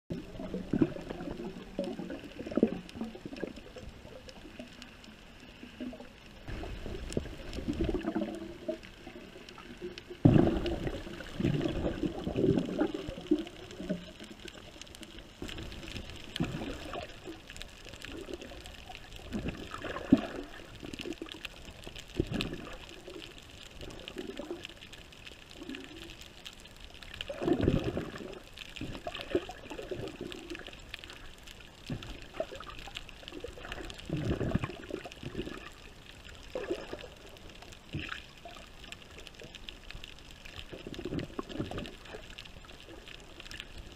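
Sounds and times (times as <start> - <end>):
water sloshing and gurgling: 0.1 - 43.9.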